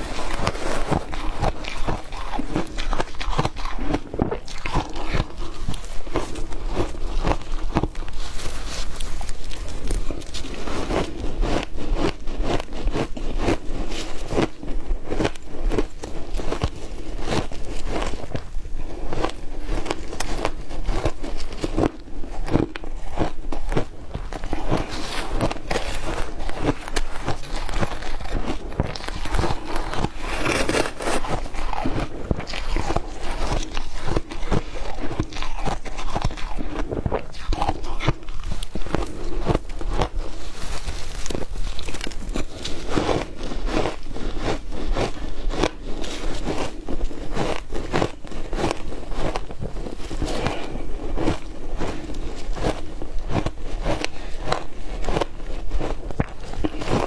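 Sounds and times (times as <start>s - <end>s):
ice crunched between teeth: 0.0s - 57.0s.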